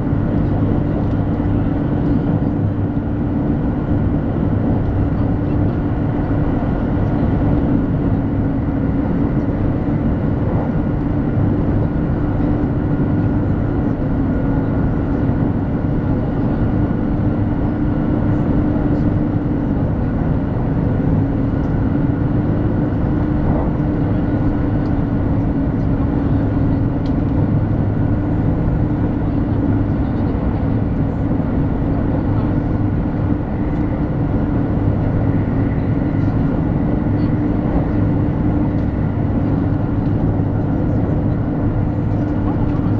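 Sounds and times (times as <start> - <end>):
constant low hum: 0.0 - 42.9
train cabin rumble: 0.0 - 42.9.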